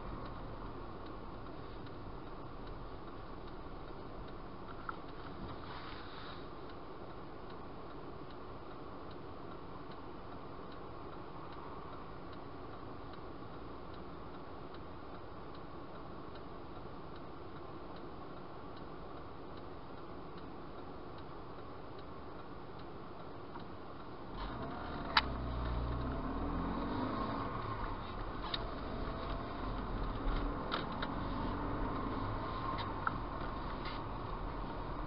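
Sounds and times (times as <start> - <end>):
turn signal ticking: 0.0 - 5.6, 6.5 - 35.0.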